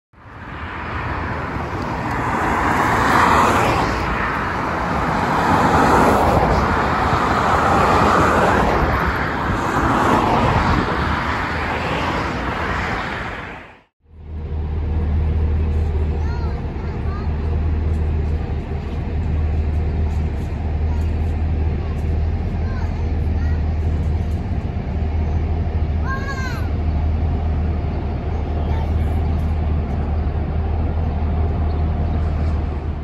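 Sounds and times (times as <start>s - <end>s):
cars passing: 0.2s - 33.0s.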